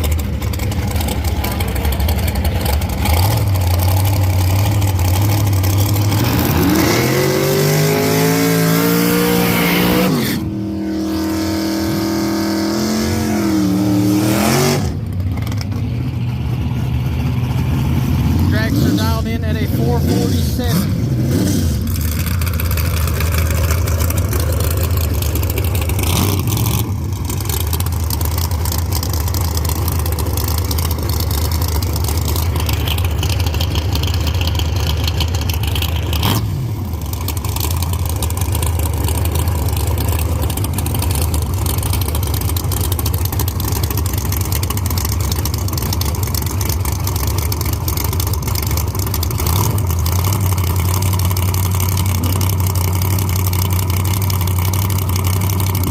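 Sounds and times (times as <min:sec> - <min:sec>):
drag car engine low rumble: 0:00.0 - 0:55.9.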